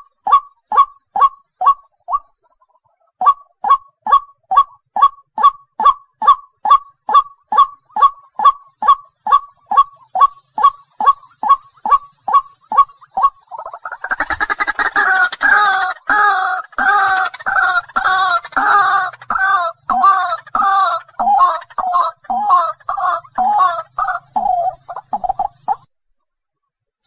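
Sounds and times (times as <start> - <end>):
bird croaking calls: 0.0 - 2.4, 3.0 - 25.9.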